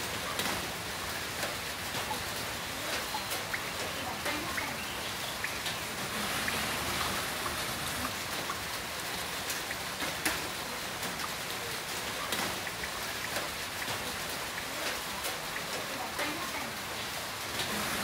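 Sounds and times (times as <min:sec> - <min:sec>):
loud raindrop splat: 0:00.0 - 0:04.4, 0:05.6 - 0:16.3
heavy rain falling: 0:00.0 - 0:18.0.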